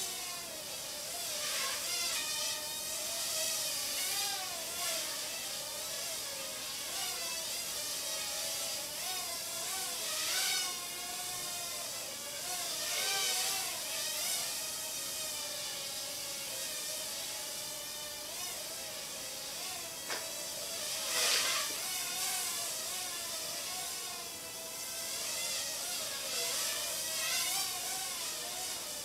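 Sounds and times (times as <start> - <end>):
toy drone motors whining: 0.0 - 29.0.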